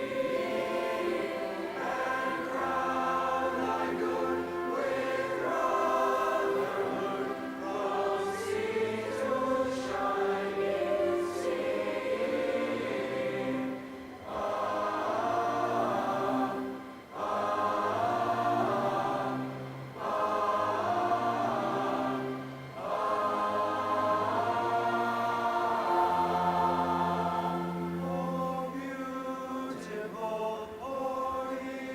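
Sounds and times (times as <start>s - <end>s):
choir singing: 0.0s - 31.9s.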